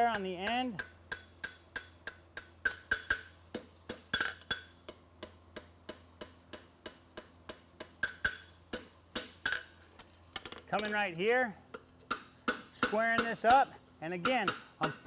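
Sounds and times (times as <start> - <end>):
hammer striking steel on anvil: 0.0 - 9.8, 11.7 - 15.0.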